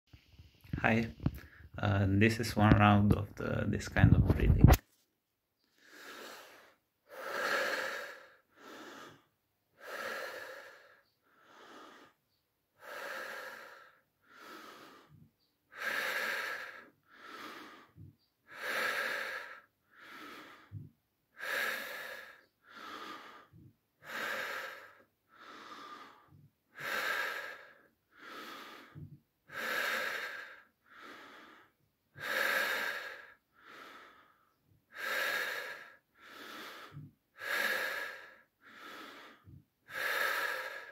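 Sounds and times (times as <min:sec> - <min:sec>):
man breathing deeply through mouth: 0:05.7 - 0:40.9.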